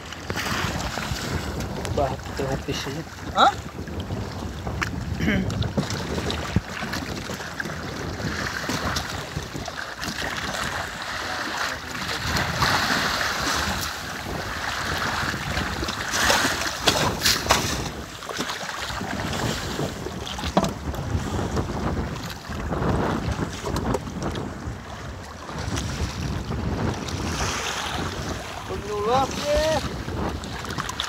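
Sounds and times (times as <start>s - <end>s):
sea water sloshing along hull: 0.0s - 31.0s
wind buffeting microphone: 0.0s - 31.0s.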